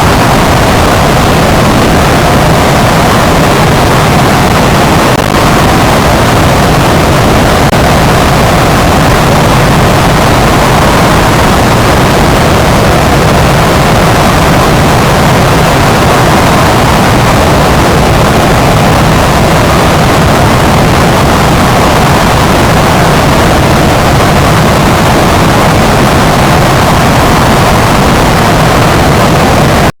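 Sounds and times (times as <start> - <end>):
steady rushing noise: 0.0 - 29.9.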